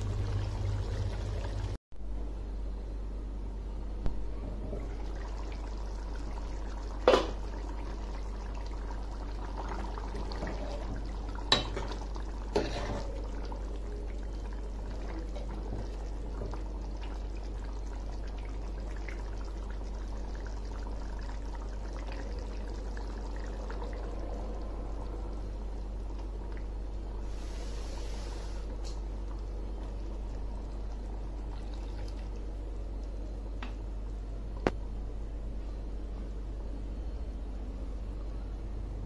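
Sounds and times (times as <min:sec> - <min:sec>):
gravy simmering and bubbling: 0:00.0 - 0:01.8, 0:04.4 - 0:34.9
steady low hum: 0:00.0 - 0:39.0.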